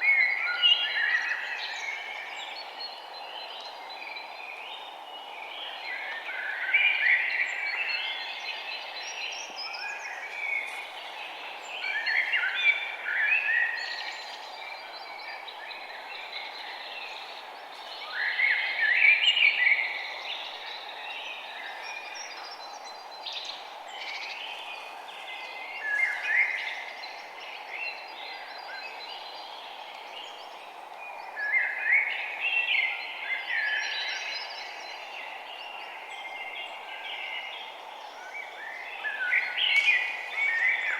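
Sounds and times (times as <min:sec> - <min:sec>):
outdoor background noise: 0:00.0 - 0:40.9
songbirds chirping: 0:00.0 - 0:40.9.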